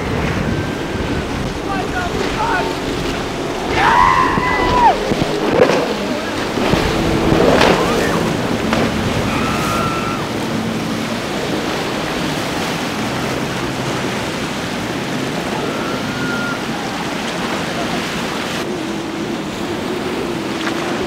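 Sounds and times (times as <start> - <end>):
wind noise on microphone: 0.0 - 17.0
boat motor running fast: 0.0 - 21.0
surf: 0.0 - 21.0.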